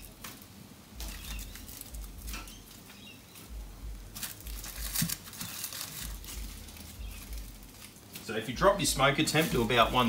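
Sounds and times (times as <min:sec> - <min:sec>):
aluminium foil crinkling: 0:00.0 - 0:10.0.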